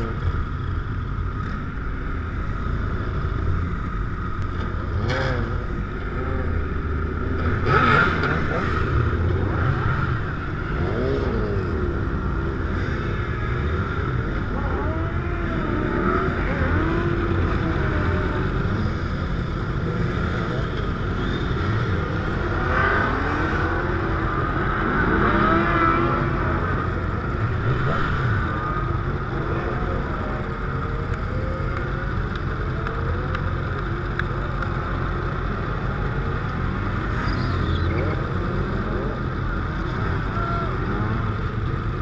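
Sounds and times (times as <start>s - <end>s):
motorcycle engines revving: 0.0s - 42.0s.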